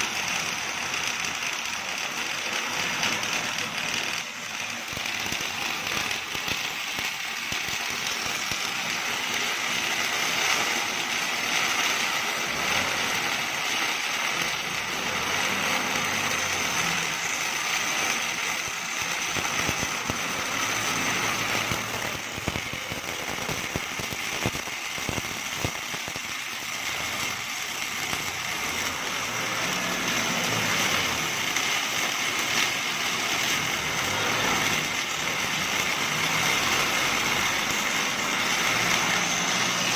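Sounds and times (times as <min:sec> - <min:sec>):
welding arc crackling: 0:00.0 - 0:39.9.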